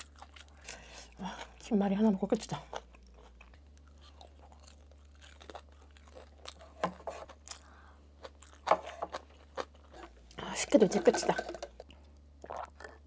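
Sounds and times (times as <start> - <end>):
person chewing crunchy food: 0.0 - 1.7, 2.5 - 10.4, 11.7 - 13.0.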